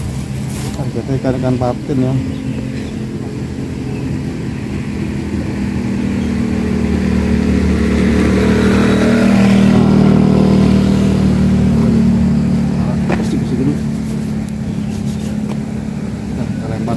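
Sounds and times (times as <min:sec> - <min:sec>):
vehicle engine running: 0:00.0 - 0:16.9.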